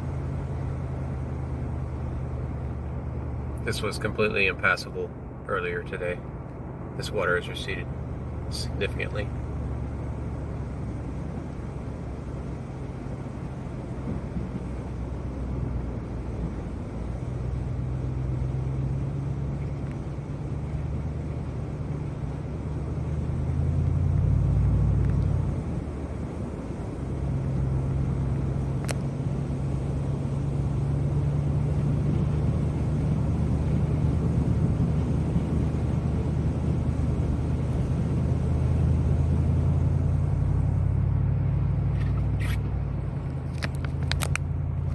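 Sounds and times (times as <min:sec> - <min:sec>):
car engine humming: 0:00.0 - 0:44.9.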